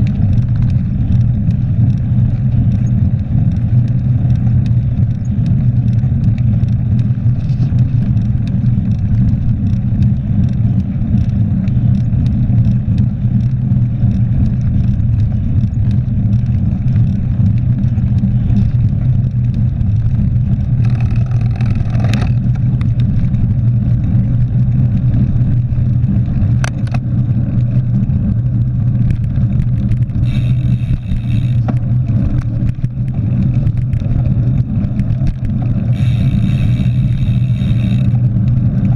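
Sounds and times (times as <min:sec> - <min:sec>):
bicycle road rumble: 0:00.0 - 0:38.9
wind: 0:00.0 - 0:38.9.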